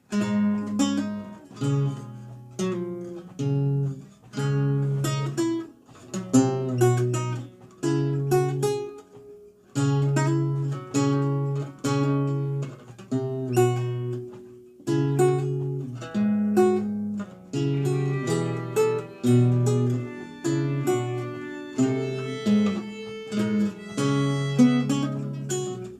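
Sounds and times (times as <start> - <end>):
solo lute playing: 0.1 - 9.0, 9.8 - 25.9.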